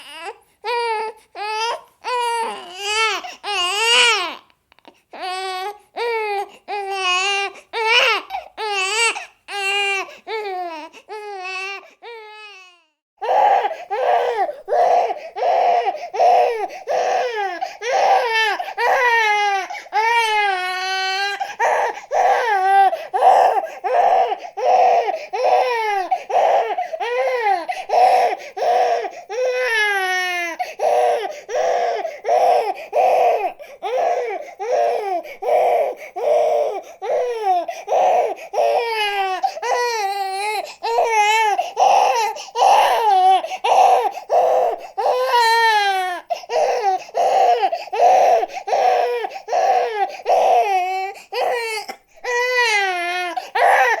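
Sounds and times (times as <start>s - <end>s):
infant crying: 0.0s - 54.0s.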